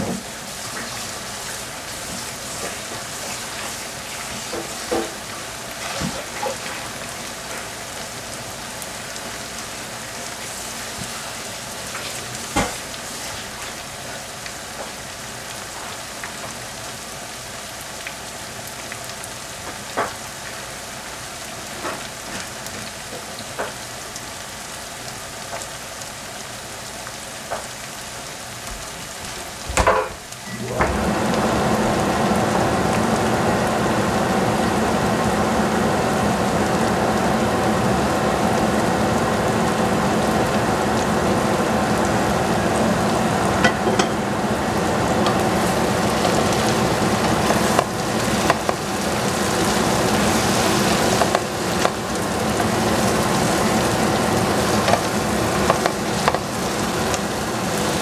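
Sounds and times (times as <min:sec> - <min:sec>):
onions sizzling in oil: 0:00.0 - 0:58.0
steady noise with faint hum: 0:00.0 - 0:58.0.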